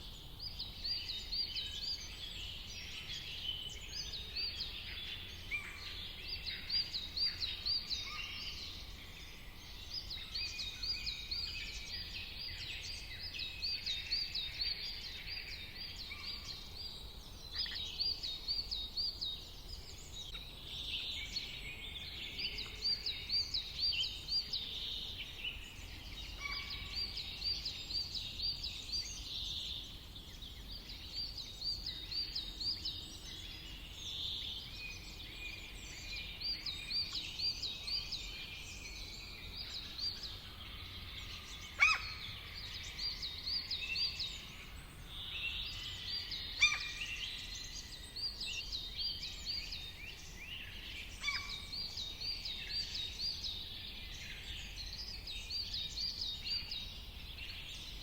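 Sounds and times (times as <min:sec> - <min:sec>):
birds singing: 0:00.0 - 0:58.0.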